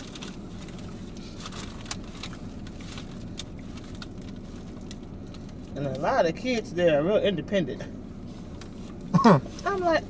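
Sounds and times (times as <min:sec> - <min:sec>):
car cabin rumble: 0:00.0 - 0:10.0.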